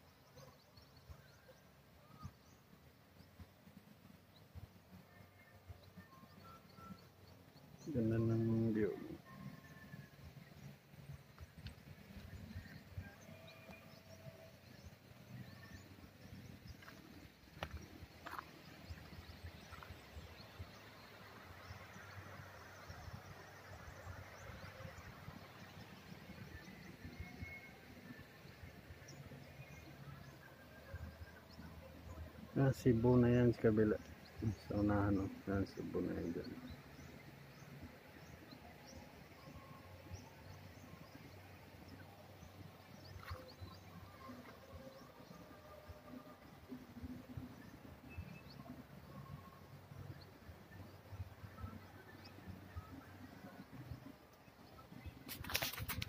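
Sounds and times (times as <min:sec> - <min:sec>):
low rumble and hiss: 0:01.2 - 0:55.2.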